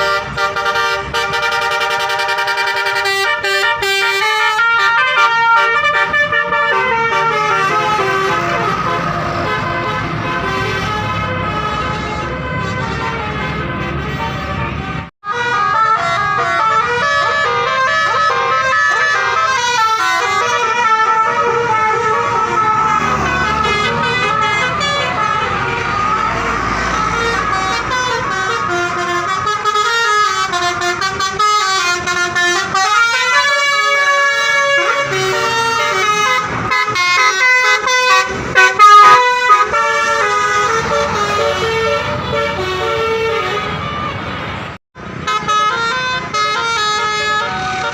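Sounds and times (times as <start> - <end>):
multi-tone bus horn playing a melody: 0.0 - 47.9.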